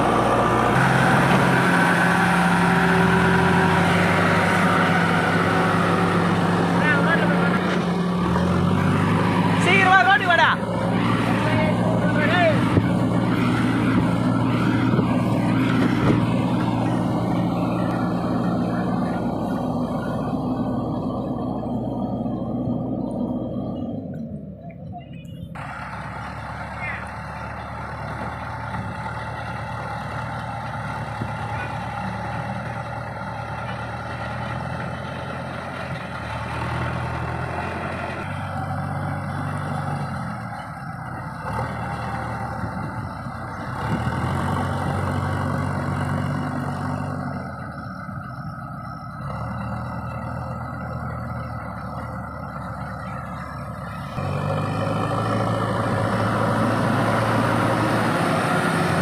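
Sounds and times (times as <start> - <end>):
heavy diesel engines under load: 0.0 - 59.0.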